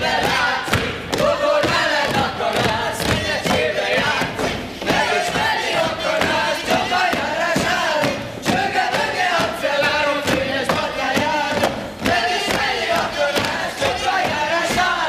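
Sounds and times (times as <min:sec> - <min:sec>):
boots stamping on stage floor: 0:00.0 - 0:15.0
group singing and shouting: 0:00.0 - 0:15.0.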